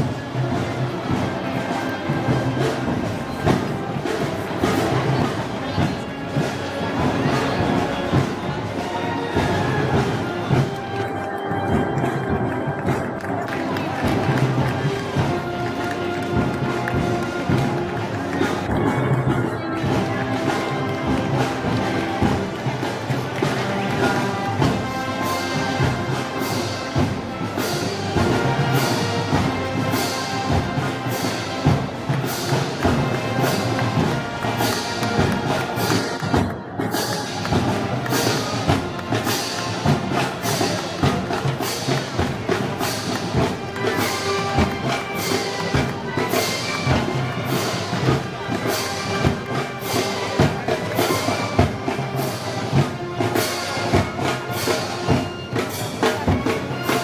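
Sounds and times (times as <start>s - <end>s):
festival band music: 0.0s - 57.0s
percussion beat: 0.0s - 57.0s.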